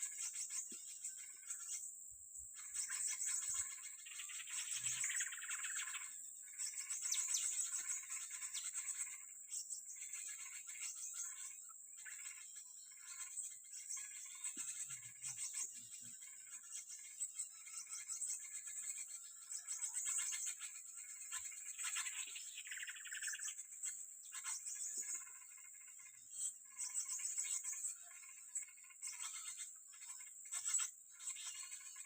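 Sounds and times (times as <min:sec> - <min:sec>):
birds chirping and twittering: 0:00.0 - 0:32.0.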